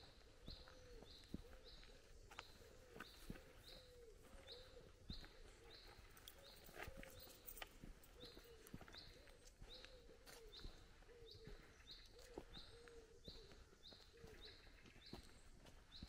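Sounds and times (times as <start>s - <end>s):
footsteps on dirt path: 0.0s - 16.0s
low cooing bird call: 0.0s - 16.0s.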